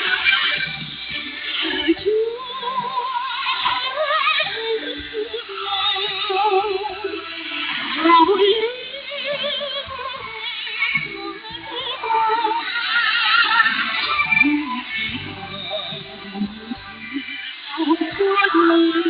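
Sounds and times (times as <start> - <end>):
instrumental accompaniment: 0.0 - 19.0
woman singing with vibrato: 1.6 - 19.0.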